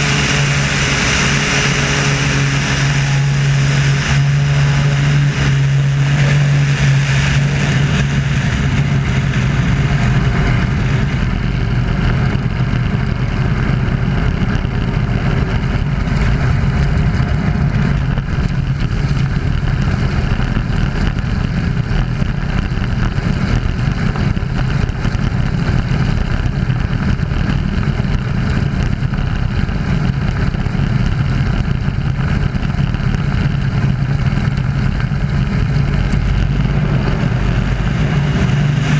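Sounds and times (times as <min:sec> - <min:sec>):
propeller plane engine: 0:00.0 - 0:38.9
wind rush: 0:00.0 - 0:38.9.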